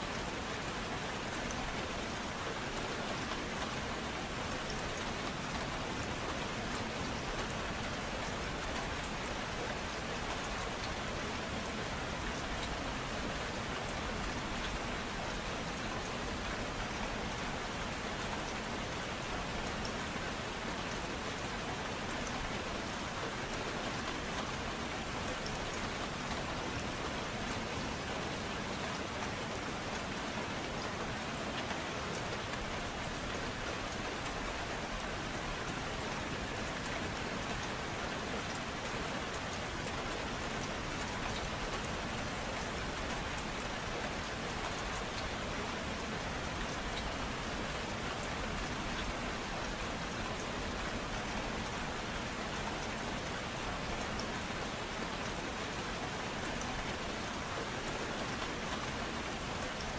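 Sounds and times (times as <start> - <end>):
patter of raindrops: 0.0 - 59.9
rain hiss: 0.0 - 59.9.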